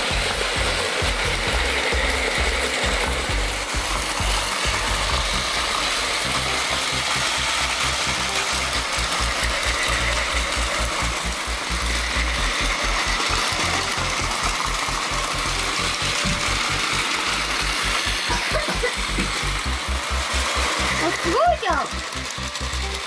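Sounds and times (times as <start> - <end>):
toy trains whirring and rattling: 0.0 - 23.0.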